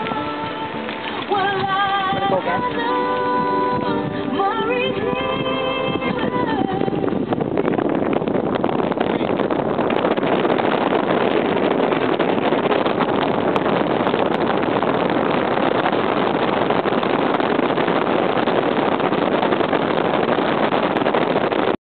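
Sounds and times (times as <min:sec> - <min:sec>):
rushing wind and road noise: 0:00.0 - 0:21.8.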